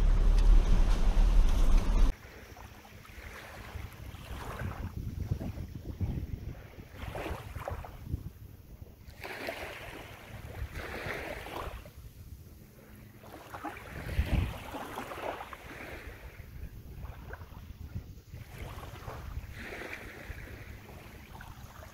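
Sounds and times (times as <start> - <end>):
wind rumble on microphone: 0.0 - 2.2, 3.2 - 21.9
small waves lapping on shore: 0.0 - 21.9.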